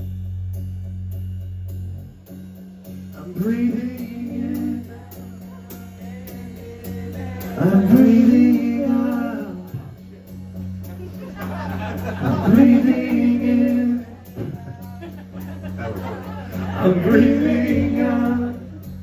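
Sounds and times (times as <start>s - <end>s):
drums: 0.0s - 19.0s.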